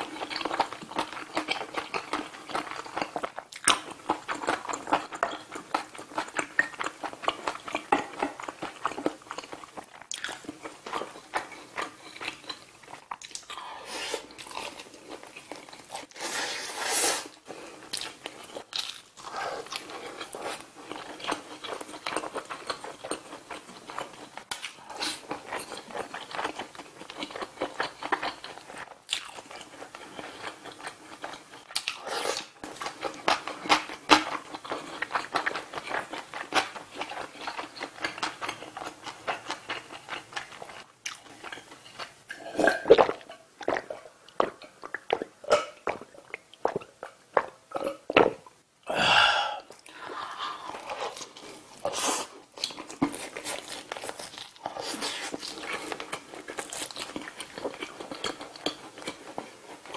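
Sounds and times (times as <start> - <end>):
chewing and crunching food: 0.0 - 16.3, 17.3 - 59.9.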